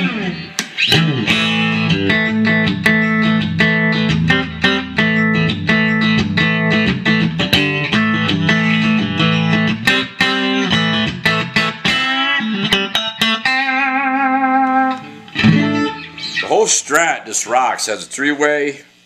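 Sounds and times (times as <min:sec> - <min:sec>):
electric guitar notes and chords: 0:00.0 - 0:16.7.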